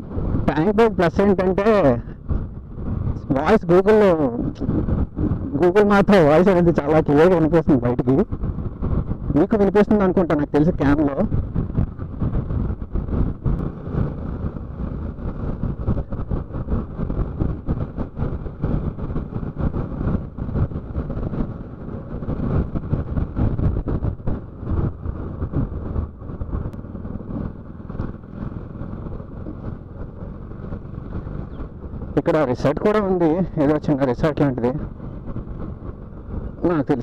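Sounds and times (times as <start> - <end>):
motorcycle engine running: 0.0 - 37.0
riding noise rumble: 0.0 - 37.0.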